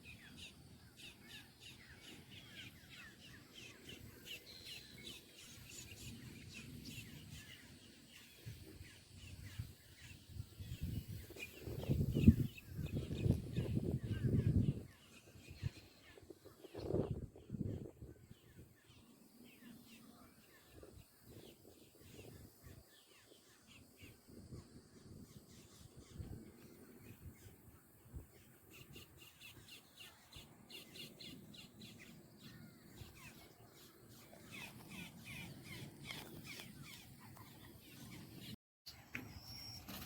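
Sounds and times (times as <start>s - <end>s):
faint bird chirps: 0.0s - 40.0s.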